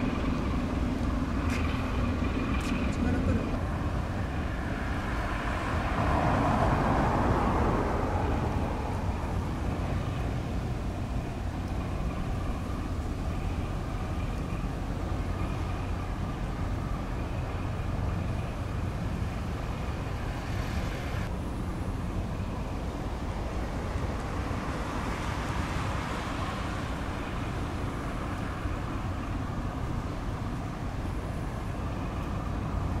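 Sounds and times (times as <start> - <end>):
distant engines rumbling: 0.0 - 33.0.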